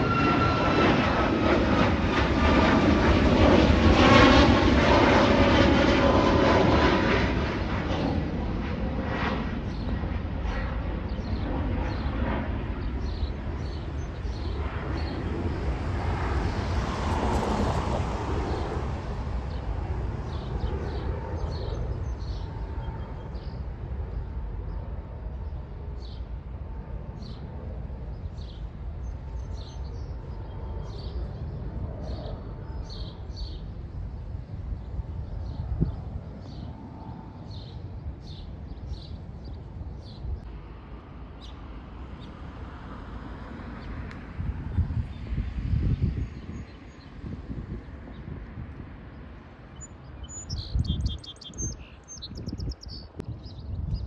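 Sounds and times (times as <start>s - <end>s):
jet airliner engine rumble: 0.0s - 54.0s.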